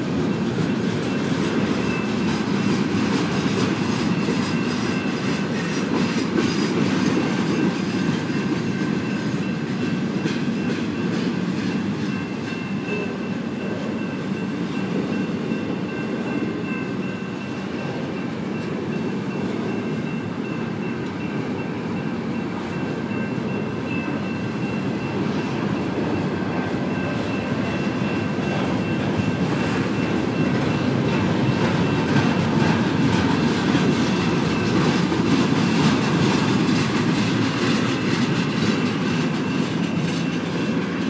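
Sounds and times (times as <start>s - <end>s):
wheels clacking over rail joints: 0.0s - 21.6s, 22.4s - 41.0s
steel wheels rumbling on rail: 0.0s - 41.0s.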